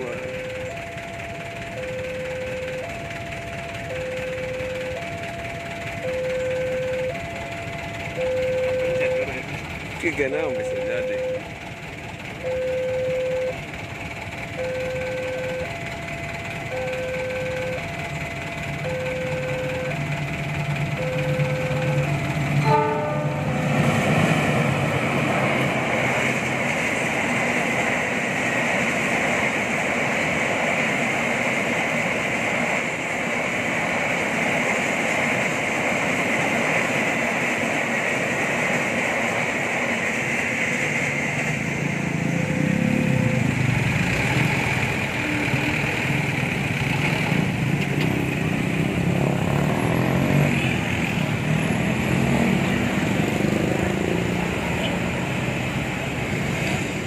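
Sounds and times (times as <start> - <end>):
motorcycle engines idling: 0.0 - 23.7, 24.4 - 57.0
crossing warning bell ringing: 0.0 - 57.0
heavy vehicles moving off: 0.0 - 57.0.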